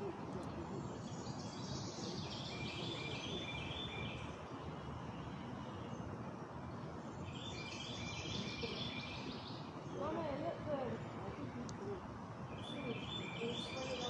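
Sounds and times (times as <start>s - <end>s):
low background noise: 0.0s - 14.0s
songbird singing: 0.0s - 14.0s.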